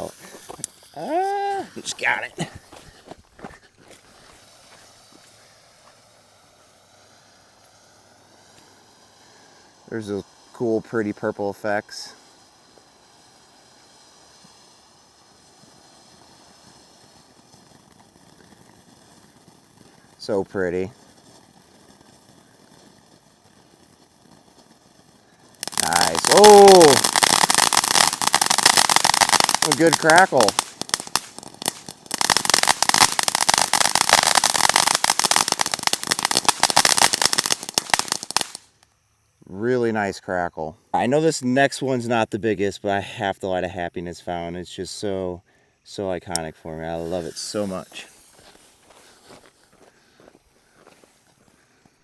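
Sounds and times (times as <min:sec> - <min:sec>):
firework fountains hissing: 0:00.0 - 0:40.0, 0:45.0 - 0:52.0
insects trilling: 0:00.0 - 0:52.0.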